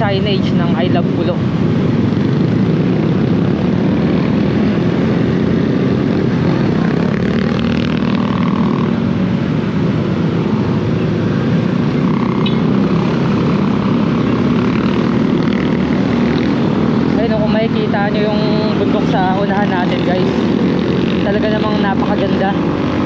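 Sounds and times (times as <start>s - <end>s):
road noise: 0.0s - 23.0s
surrounding motorcycle engines: 0.0s - 23.0s.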